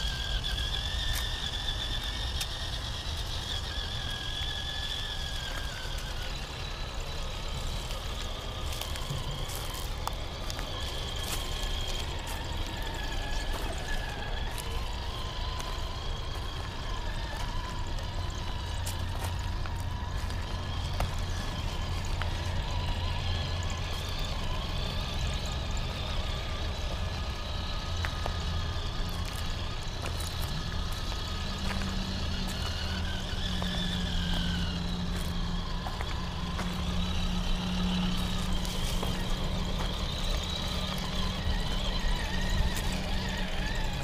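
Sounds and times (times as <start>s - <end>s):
electric motor whining: 0.0s - 44.0s.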